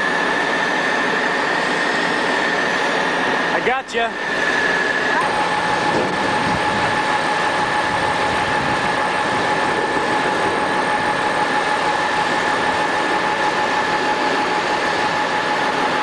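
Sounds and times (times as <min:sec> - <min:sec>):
engine whine: 0:00.0 - 0:16.0.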